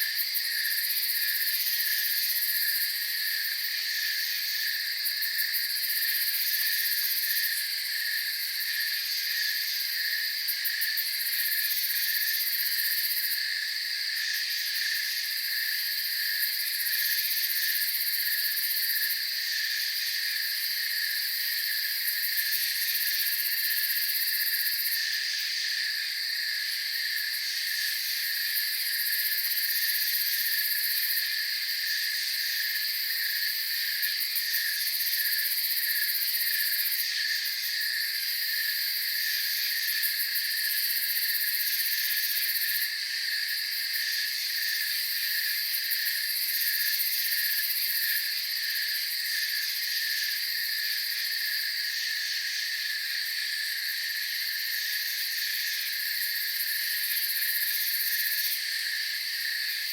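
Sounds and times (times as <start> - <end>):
crickets and insects chirring: 0.0 - 59.9.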